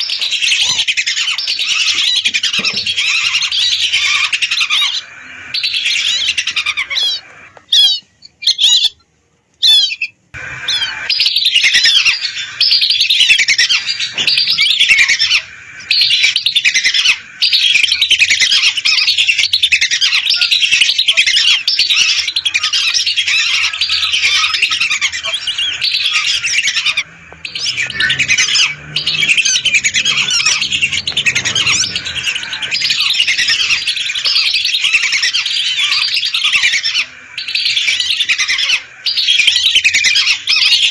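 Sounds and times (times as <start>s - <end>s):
ducks whistling: 0.0s - 9.0s, 9.6s - 40.9s.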